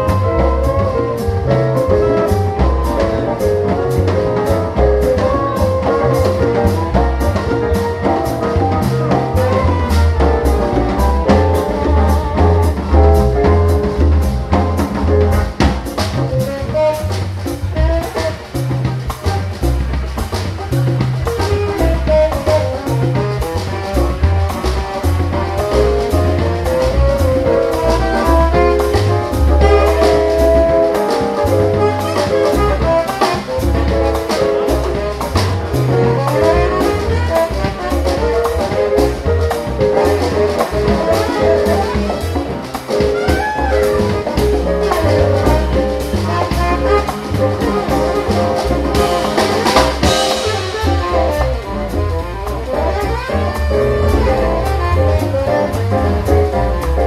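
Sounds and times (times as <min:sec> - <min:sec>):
saxophone melody: 0:00.0 - 0:19.1, 0:20.6 - 0:57.0
drum kit: 0:00.0 - 0:57.0
electric bass: 0:00.0 - 0:57.0.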